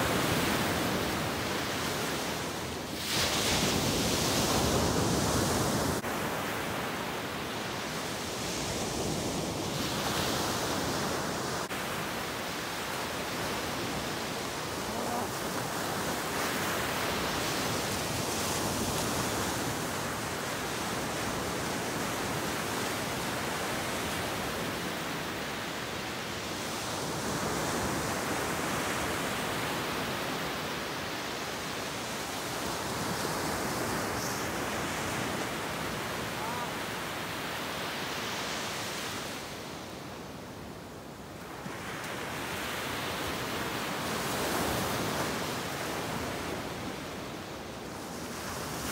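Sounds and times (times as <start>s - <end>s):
ocean waves breaking on a beach: 0.0s - 48.9s.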